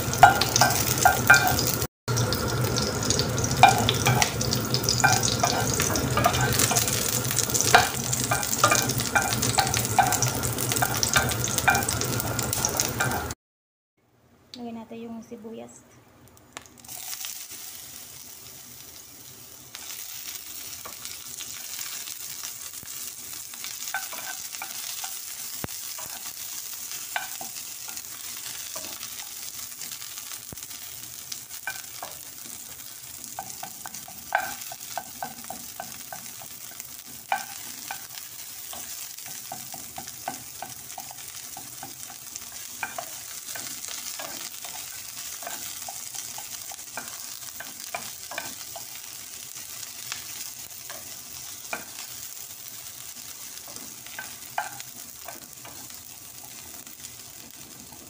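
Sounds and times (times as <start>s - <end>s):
garlic and onion sizzling in oil: 0.0s - 13.4s, 16.6s - 58.0s.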